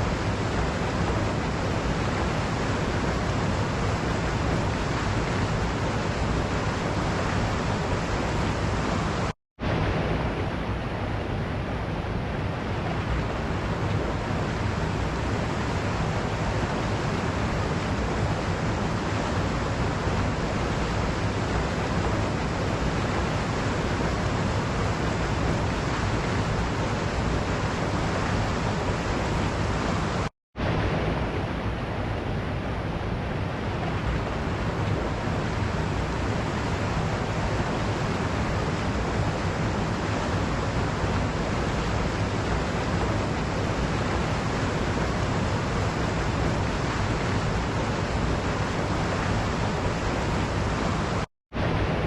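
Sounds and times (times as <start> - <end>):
waterfall rushing: 0.0 - 10.6, 12.7 - 31.8, 33.7 - 52.0.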